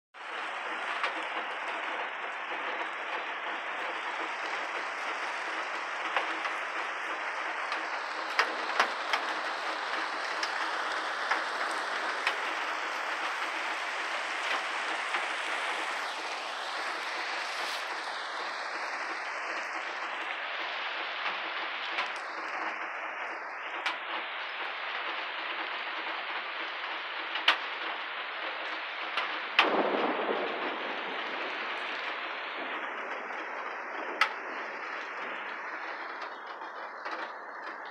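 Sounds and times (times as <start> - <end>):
steady rain falling: 0.2 - 37.9.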